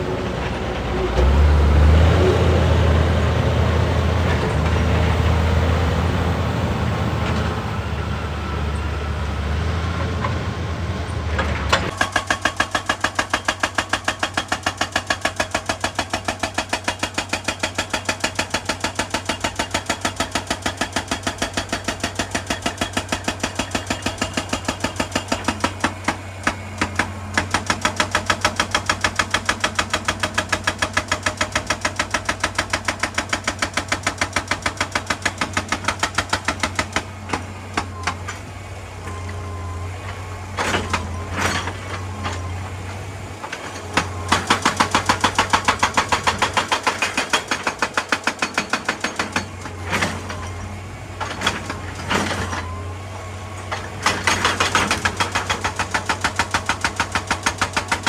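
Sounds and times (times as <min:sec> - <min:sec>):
excavator diesel engine running: 0:00.0 - 0:58.0
hydraulic rock breaker hammering: 0:11.4 - 0:58.0.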